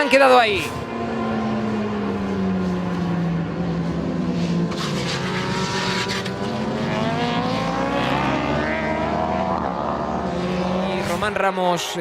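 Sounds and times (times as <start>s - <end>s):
motorcycles passing by: 0.0s - 12.0s
racing motorcycle engines revving: 0.0s - 12.0s.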